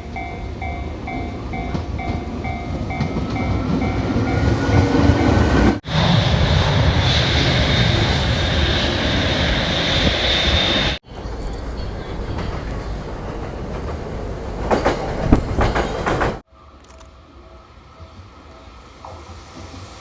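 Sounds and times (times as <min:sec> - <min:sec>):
train running: 0:00.0 - 0:20.0.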